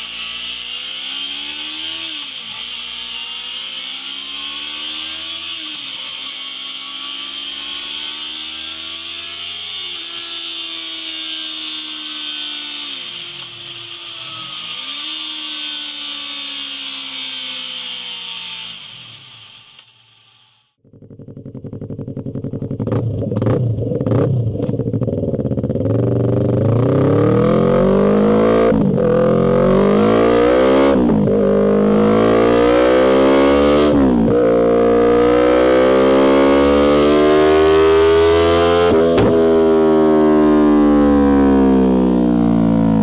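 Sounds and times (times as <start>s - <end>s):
motorcycle engine revving: 0.0s - 19.7s, 20.8s - 43.0s.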